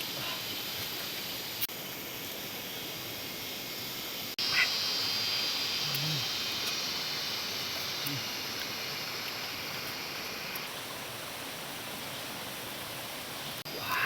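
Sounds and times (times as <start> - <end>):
flowing water rushing: 0.0 - 14.0
high hiss: 0.0 - 14.0.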